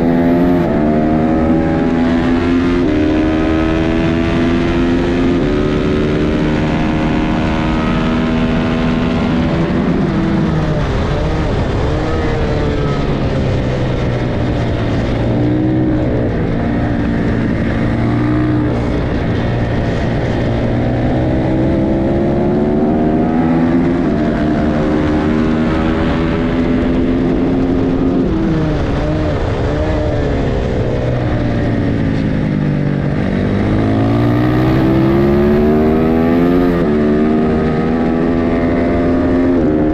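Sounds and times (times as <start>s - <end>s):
race motorcycle engines revving: 0.0s - 39.9s.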